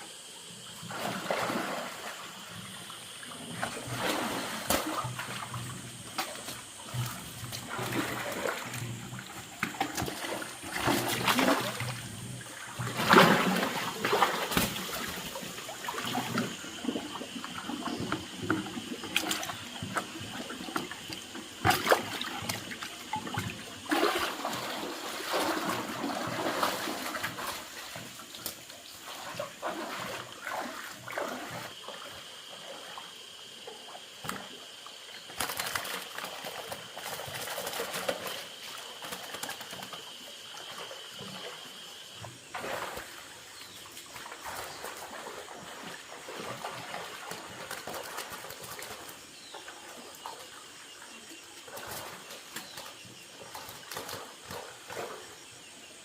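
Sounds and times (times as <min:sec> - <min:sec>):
water splashing and trickling: 0:00.7 - 0:56.0.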